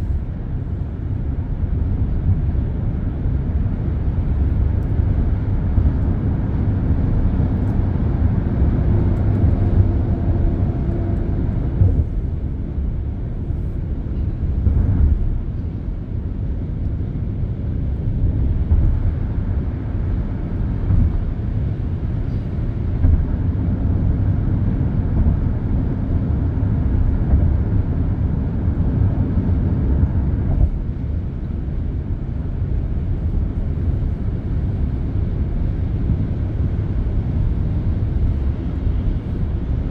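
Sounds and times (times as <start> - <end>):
passing vehicle whine: 0.0 - 39.9
traffic rumble: 0.0 - 39.9.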